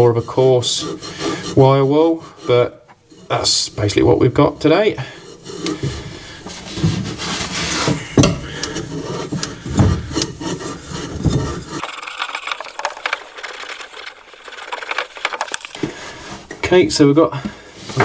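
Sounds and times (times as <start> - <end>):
wire wool scratching copper pipe: 0.0 - 16.8.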